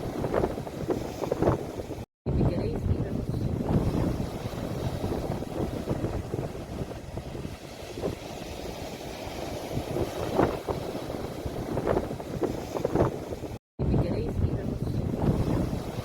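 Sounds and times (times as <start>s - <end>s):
sea waves surging: 0.0s - 16.0s.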